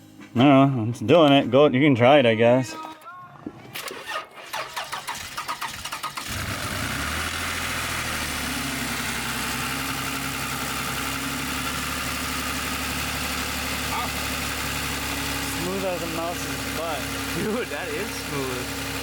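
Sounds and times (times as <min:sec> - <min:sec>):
car engine cranking and idling: 0:03.8 - 0:19.0.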